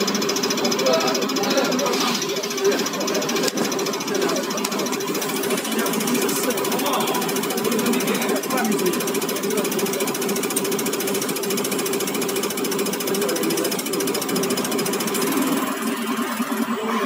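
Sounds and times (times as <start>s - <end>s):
injector firing rattle: 0.0s - 17.0s
test bench pump running: 0.0s - 17.0s.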